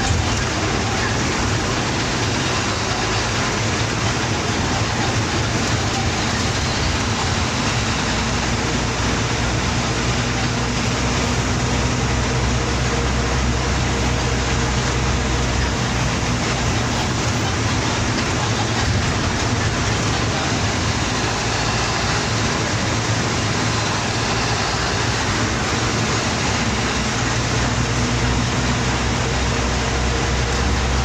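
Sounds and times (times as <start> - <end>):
bus engine drone: 0.0 - 31.0
road noise hiss: 0.0 - 31.0.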